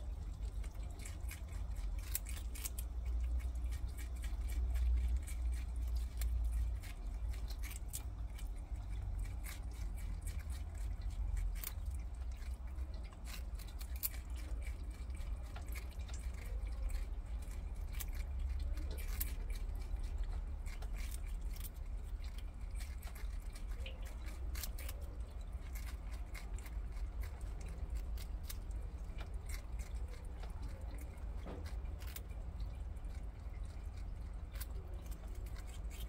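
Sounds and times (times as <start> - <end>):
crunchy nibbling clicks: 0.0 - 36.0
steady low hum: 0.0 - 36.0.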